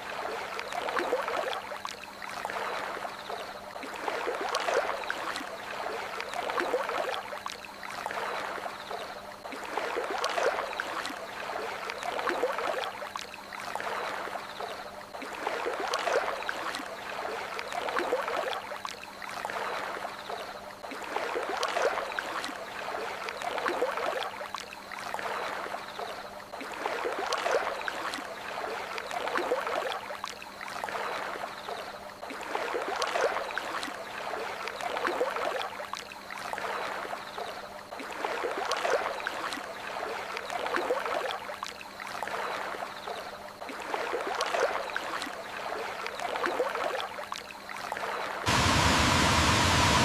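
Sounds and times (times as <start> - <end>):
water lapping and gurgling: 0.0 - 50.0.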